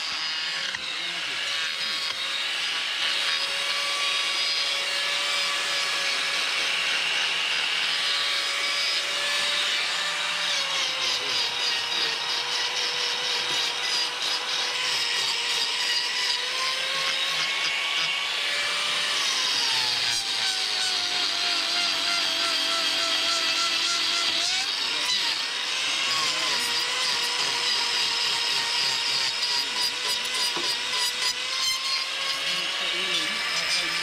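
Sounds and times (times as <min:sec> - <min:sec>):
angle grinder motor whine: 0:00.0 - 0:34.0
grinding disc rasping on hoof: 0:00.0 - 0:34.0.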